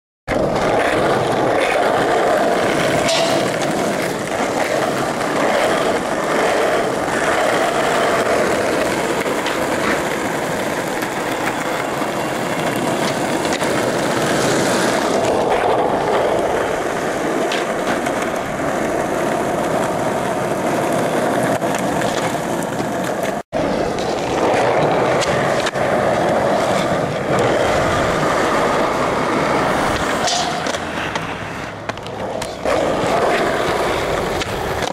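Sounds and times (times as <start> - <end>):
skateboard clacks: 0.3 - 34.9
skateboard wheels rolling on asphalt: 0.3 - 34.9.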